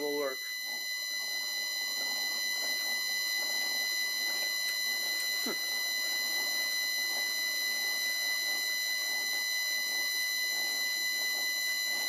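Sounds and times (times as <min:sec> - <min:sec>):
lathe motor whine: 0:00.0 - 0:12.0
metal drilling noise: 0:00.0 - 0:12.0.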